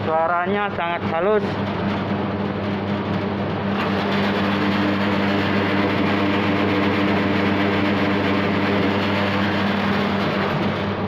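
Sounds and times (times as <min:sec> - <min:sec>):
plucking machine humming and whirring: 0:00.0 - 0:11.0.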